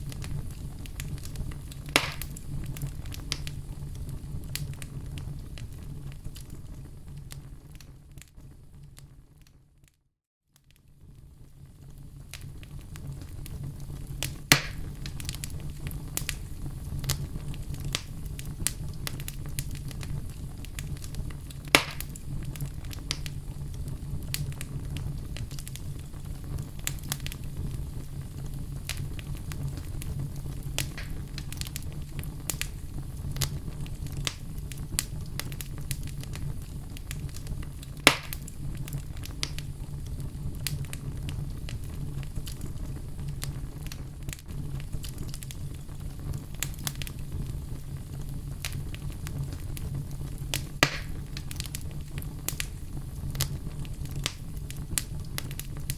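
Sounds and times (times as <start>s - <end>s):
sharp fire pops: 0.0s - 9.5s, 10.6s - 55.9s
fire crackling in fireplace: 0.0s - 55.9s.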